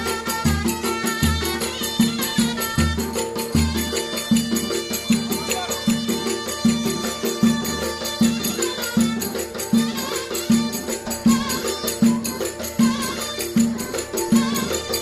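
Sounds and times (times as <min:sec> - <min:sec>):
folk drum beating: 0:00.0 - 0:15.0
high steady melody line: 0:00.0 - 0:15.0.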